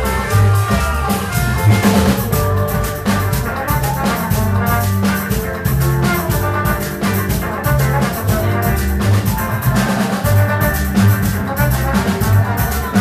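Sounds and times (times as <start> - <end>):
drum kit and hand percussion: 0.0 - 13.0
electric bass line: 0.0 - 13.0
horns and keyboards melody: 0.0 - 13.0.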